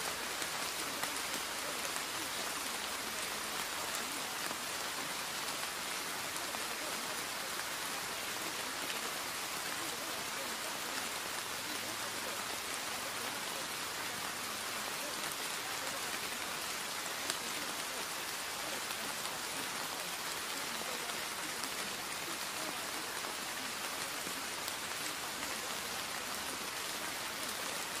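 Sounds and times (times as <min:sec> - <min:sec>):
rain-like hiss with patter: 0:00.0 - 0:28.0.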